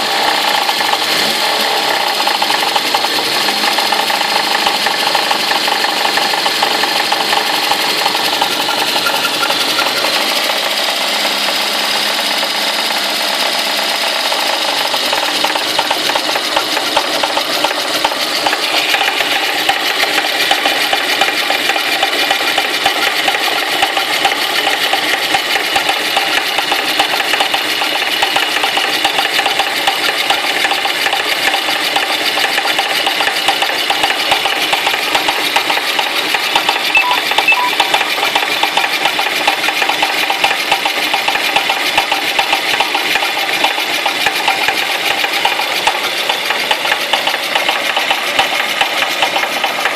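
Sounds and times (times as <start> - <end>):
car engine running: 0.0 - 49.9
fast pulley knocking: 1.9 - 49.9.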